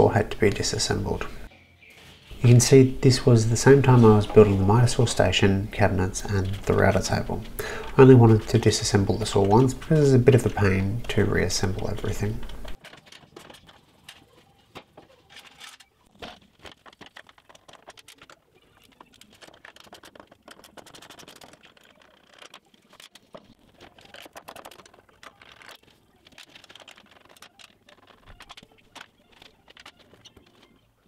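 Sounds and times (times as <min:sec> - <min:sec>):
hand tools clicking and clinking: 0:03.8 - 0:31.0.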